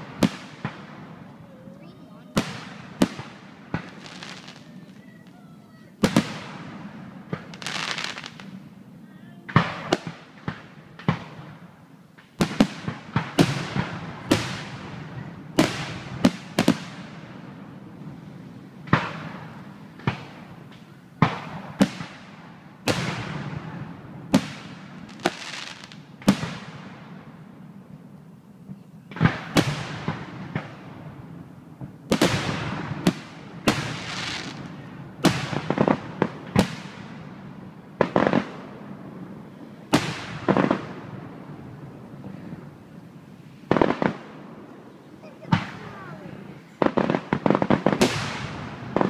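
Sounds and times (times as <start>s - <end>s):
firework hiss and crackle: 0.0s - 49.0s.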